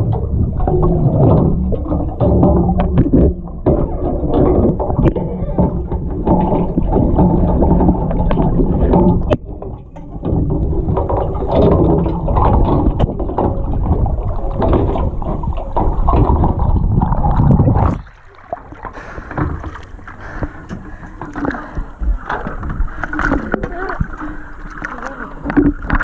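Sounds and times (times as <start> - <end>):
muffled underwater water rush: 0.0 - 26.0
water splashing and sloshing: 0.0 - 26.0.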